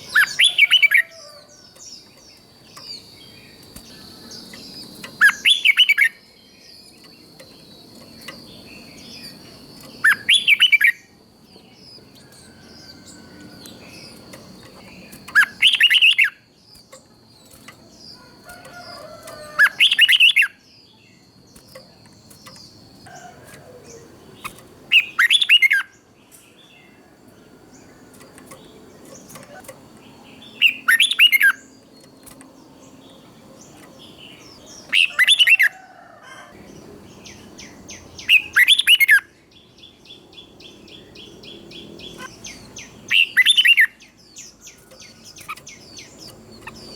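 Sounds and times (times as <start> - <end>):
bird singing warbling phrases: 0.0 - 27.2, 27.8 - 35.8, 36.6 - 46.9.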